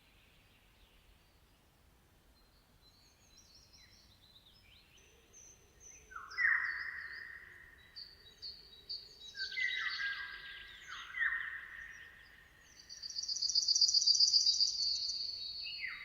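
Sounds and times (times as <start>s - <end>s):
songbirds chirping and singing: 3.0s - 16.0s.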